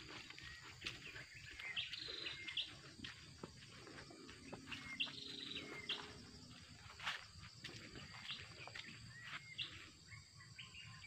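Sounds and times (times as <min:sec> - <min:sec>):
birds chirping: 0:00.0 - 0:11.0
faint insect hum: 0:00.0 - 0:11.0.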